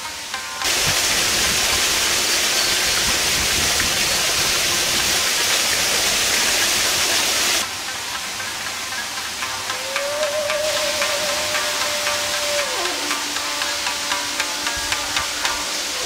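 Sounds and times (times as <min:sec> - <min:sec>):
water splashing down waterfall: 0:00.0 - 0:16.0.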